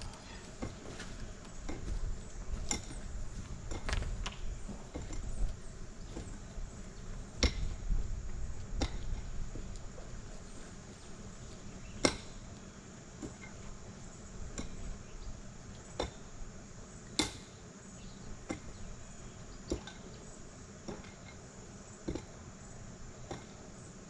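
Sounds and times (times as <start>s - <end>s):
faint insect hum: 0.0s - 24.0s.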